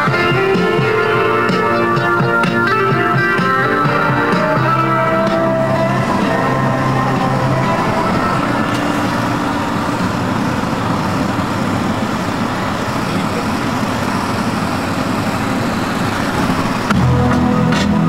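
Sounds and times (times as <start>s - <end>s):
car driving road noise: 0.0s - 18.0s.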